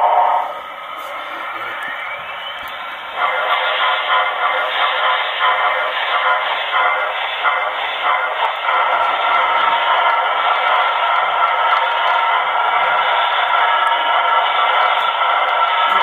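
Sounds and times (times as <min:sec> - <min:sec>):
steady locomotive sound: 0:00.0 - 0:16.0.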